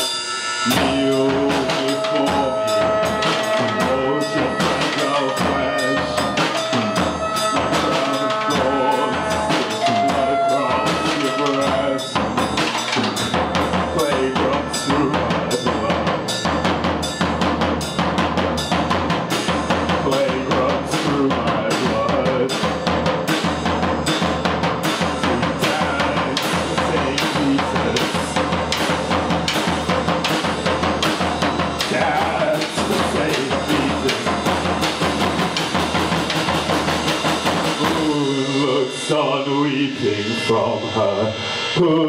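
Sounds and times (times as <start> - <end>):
trombone: 0.0 - 38.7
drum kit beat: 0.0 - 42.0
live band playing instrumental: 0.0 - 42.0.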